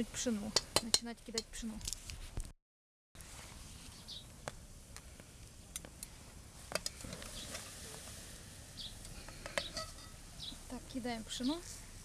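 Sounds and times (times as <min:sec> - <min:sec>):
low steady background noise: 0:00.0 - 0:02.5, 0:03.2 - 0:12.0.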